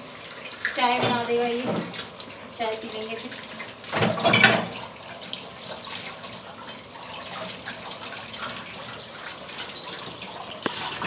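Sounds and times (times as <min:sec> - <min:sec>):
dishes rinsed by hand: 0:00.0 - 0:11.0
tap water running into sink: 0:00.0 - 0:11.0.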